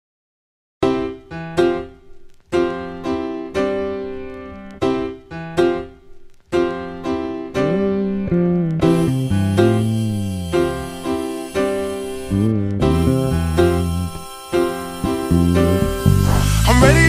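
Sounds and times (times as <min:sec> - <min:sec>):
piano chords: 0:00.8 - 0:17.0.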